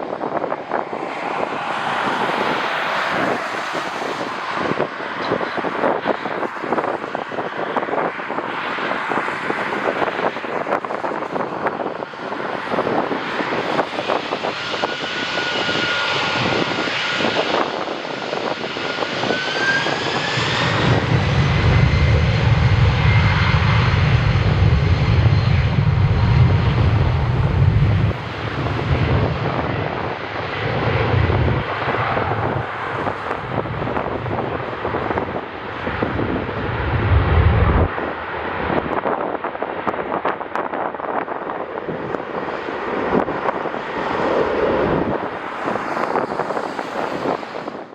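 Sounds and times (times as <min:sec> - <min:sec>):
jet airliner engines whining: 0:00.0 - 0:47.9
wind buffeting microphone: 0:00.0 - 0:47.9.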